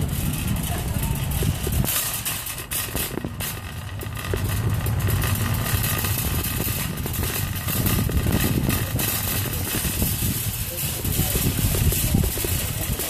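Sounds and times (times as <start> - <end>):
shopping cart wheels rumbling: 0.0 - 13.0
wire cart rattling: 0.0 - 13.0.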